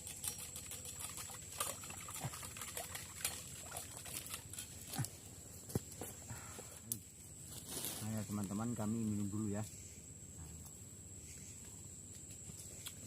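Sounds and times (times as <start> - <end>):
high-pitched insect trill: 0.0 - 5.1, 6.8 - 13.0.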